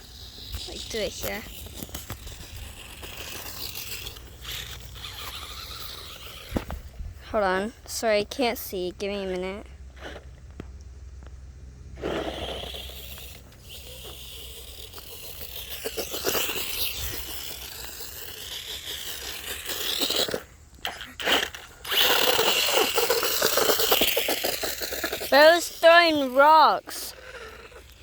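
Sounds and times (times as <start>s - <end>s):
toy car motor whining: 0.0s - 10.4s, 12.0s - 28.0s.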